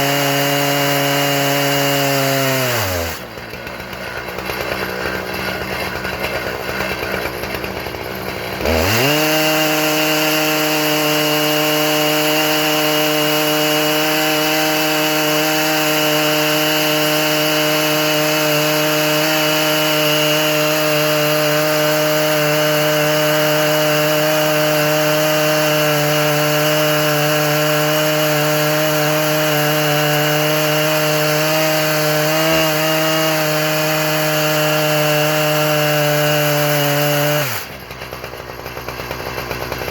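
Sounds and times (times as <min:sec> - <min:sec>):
chainsaw milling log: 0:00.0 - 0:39.9.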